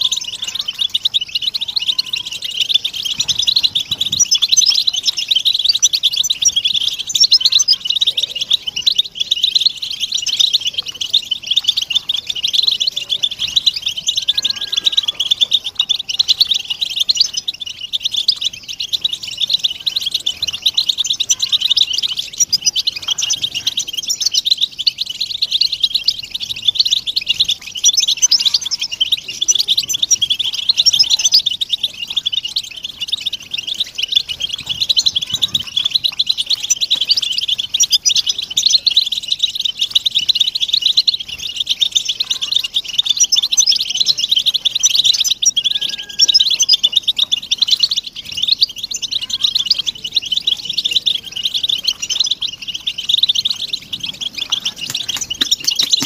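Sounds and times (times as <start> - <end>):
flock of birds twittering: 0.0 - 56.0.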